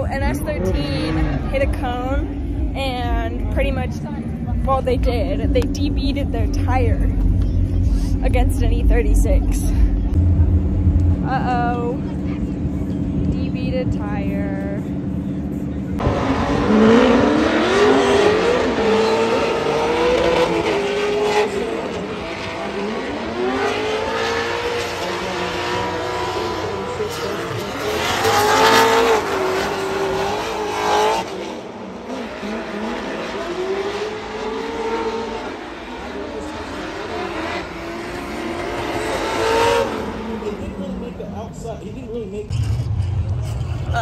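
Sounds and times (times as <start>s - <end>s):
drift car engines revving: 0.0s - 44.0s.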